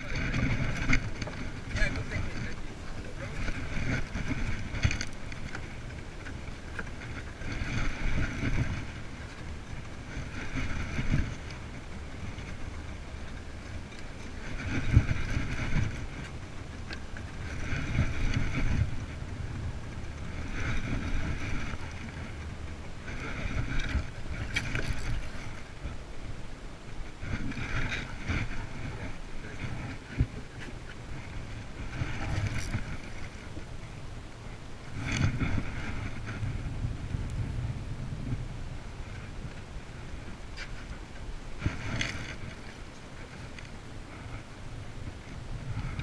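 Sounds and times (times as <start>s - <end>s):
low wind rumble on microphone: 0.0s - 46.0s.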